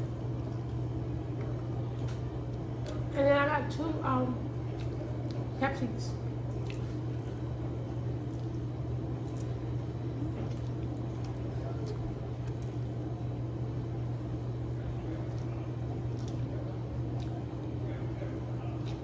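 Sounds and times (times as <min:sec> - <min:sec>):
steady low hum: 0:00.0 - 0:19.0
eating clicks and smacks: 0:00.3 - 0:03.2, 0:04.7 - 0:05.6, 0:06.4 - 0:13.3, 0:13.9 - 0:19.0.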